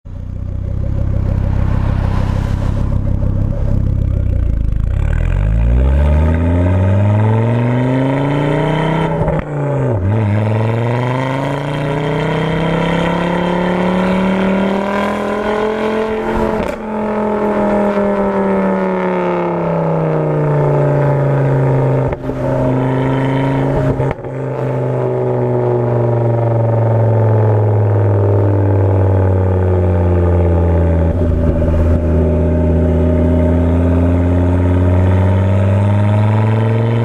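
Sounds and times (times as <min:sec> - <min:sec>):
car engine revving through gears: 0:00.2 - 0:37.0.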